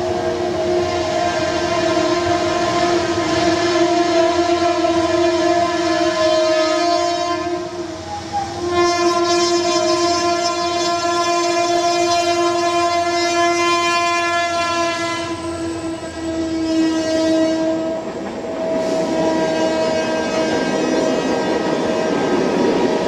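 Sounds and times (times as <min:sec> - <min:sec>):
train horn blast: 0:00.0 - 0:22.4
train rushing through water: 0:00.0 - 0:23.0.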